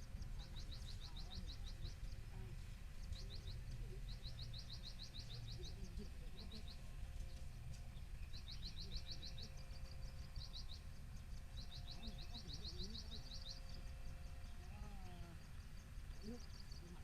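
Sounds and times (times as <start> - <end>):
low steady rumble: 0.0 - 17.0
small bird singing: 0.0 - 17.0.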